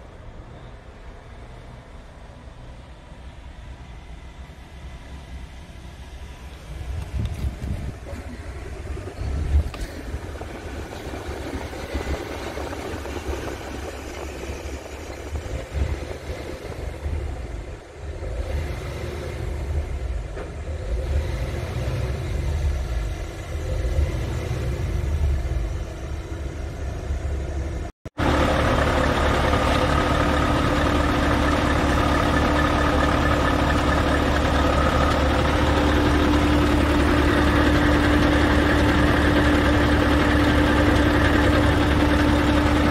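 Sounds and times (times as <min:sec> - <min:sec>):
diesel engine idling: 0:00.0 - 0:18.4, 0:24.8 - 0:42.9.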